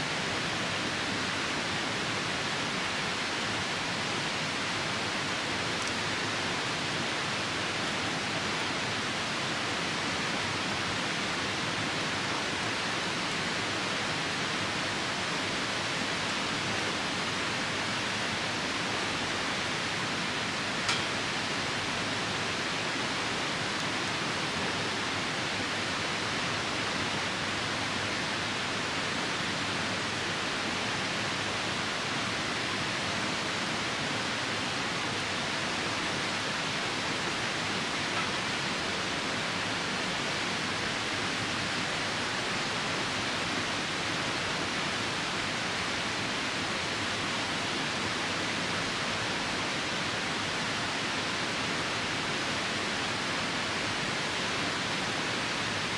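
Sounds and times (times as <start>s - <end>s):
rain falling: 0.0s - 55.9s
river rushing: 0.0s - 55.9s.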